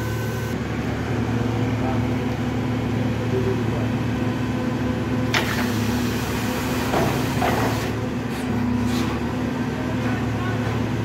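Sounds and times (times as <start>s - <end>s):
drilling rig engine running: 0.0s - 11.0s.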